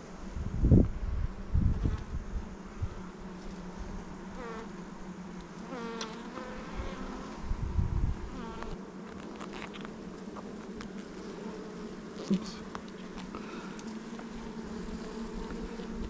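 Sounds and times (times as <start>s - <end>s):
single bee buzzing close: 0.2s - 16.0s
bees humming: 1.3s - 16.0s.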